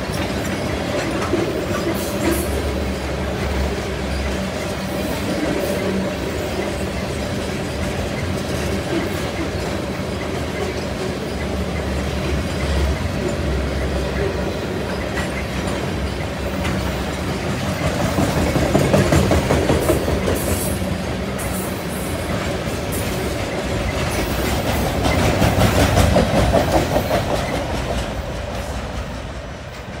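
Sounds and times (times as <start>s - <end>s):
train wheels rumbling and clattering: 0.0s - 30.0s
wheels clicking on rails: 0.0s - 30.0s.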